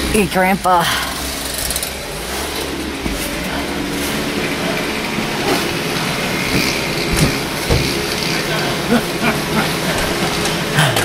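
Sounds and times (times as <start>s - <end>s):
engine humming with hiss: 0.0s - 11.0s.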